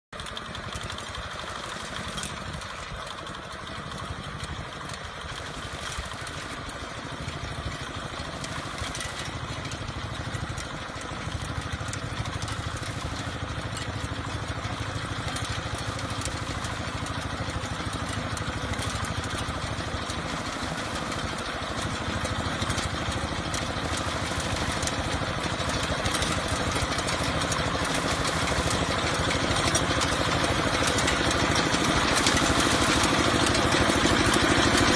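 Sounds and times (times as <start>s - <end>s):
light mechanical clatter: 0.2s - 34.9s
small engine running: 0.2s - 34.9s.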